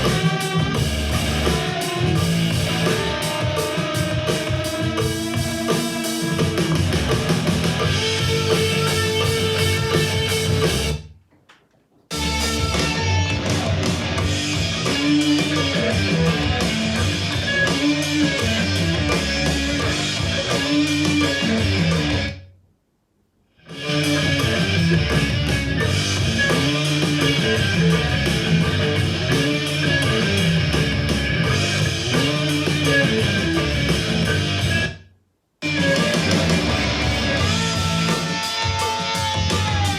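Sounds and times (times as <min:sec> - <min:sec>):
rock music through speaker: 0:00.0 - 0:22.4, 0:23.6 - 0:35.0, 0:35.6 - 0:39.9.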